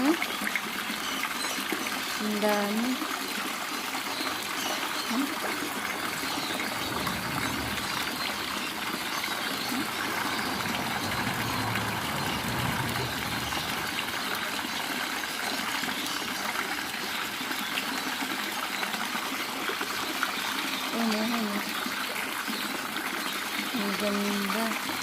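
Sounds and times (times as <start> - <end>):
water splashing into pond: 0.0 - 25.0.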